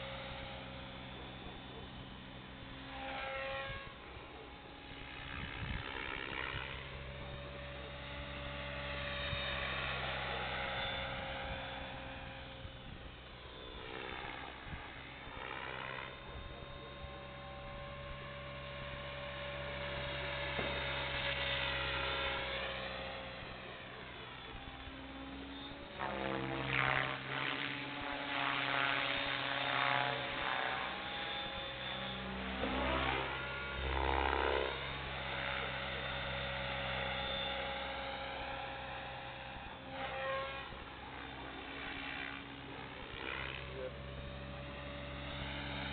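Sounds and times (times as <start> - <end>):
rc helicopter motor and rotor: 0.0 - 45.9.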